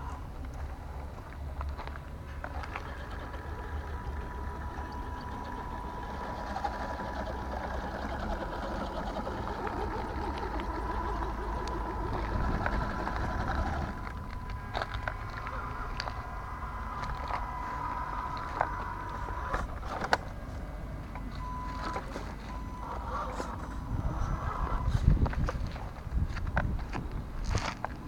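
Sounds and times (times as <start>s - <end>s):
low rumble: 0.0s - 27.8s
electric motor whining: 2.3s - 26.9s.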